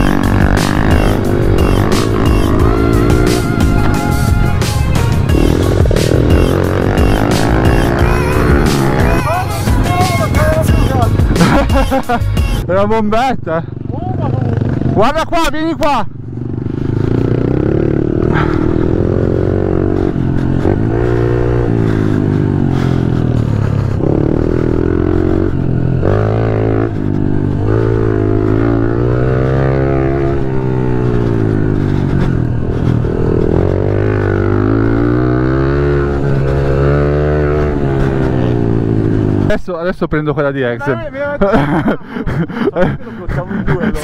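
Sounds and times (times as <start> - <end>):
motorbike engine revving: 0.0 - 39.6.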